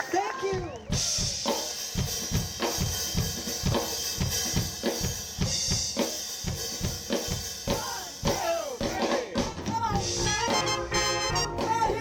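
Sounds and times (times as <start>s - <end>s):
drum kit beat: 0.0s - 12.0s
live band instrumental groove: 0.0s - 12.0s.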